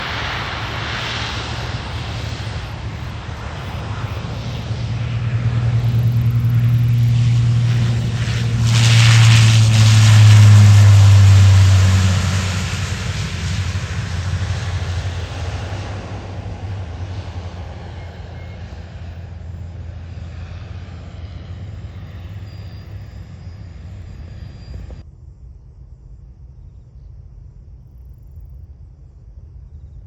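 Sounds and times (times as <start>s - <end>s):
airliner engines passing: 0.0s - 25.0s.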